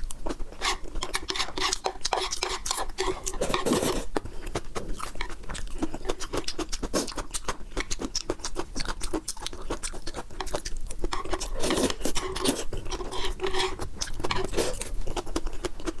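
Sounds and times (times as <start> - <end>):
wet chewing: 0.0 - 16.0.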